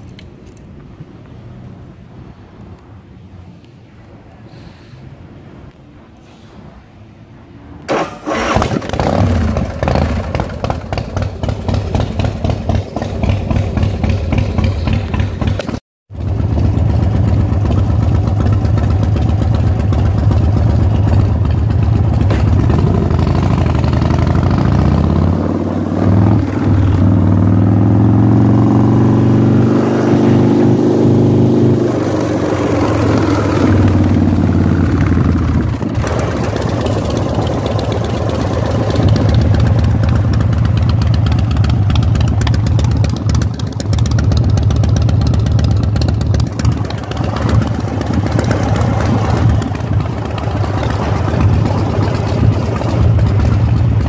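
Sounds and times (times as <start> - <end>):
motorcycle engine idling and revving: 7.8 - 54.0.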